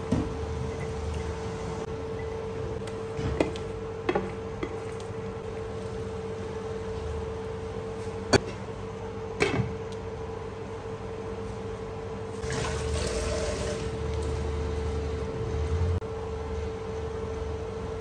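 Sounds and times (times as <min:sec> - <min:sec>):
induction cooktop hum: 0:00.0 - 0:18.0.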